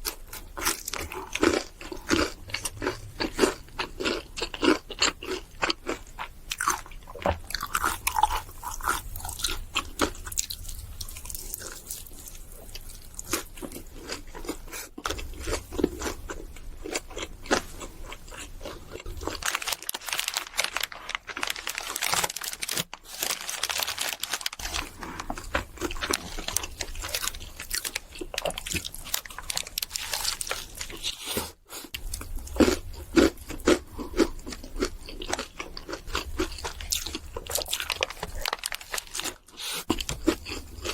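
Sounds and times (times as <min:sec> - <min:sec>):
crunchy chewing: 0:00.0 - 0:40.9.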